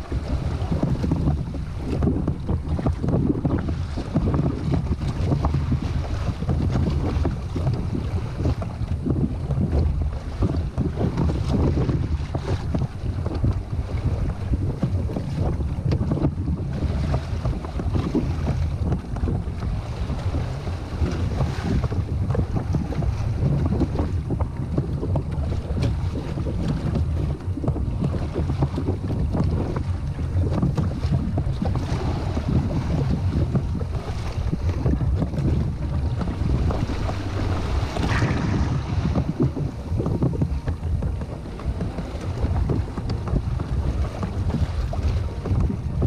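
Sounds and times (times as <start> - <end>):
water slapping against kayak hull: 0.0 - 46.0
wind buffeting microphone: 0.0 - 46.0.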